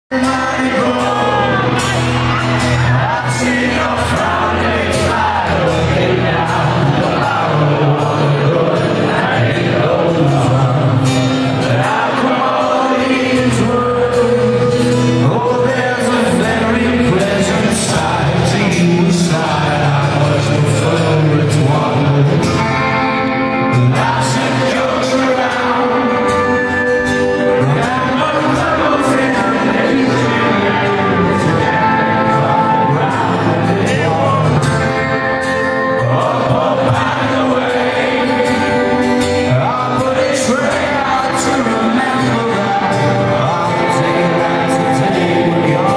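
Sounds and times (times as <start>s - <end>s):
acoustic guitar strummed: 0.1s - 45.9s
crowd shouting: 0.1s - 45.9s
man singing into a microphone: 0.1s - 45.9s.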